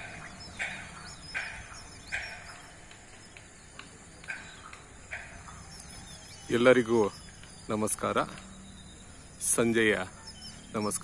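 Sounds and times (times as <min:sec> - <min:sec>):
faint bird chirps: 0:00.0 - 0:11.0
high insect trill: 0:00.0 - 0:11.0.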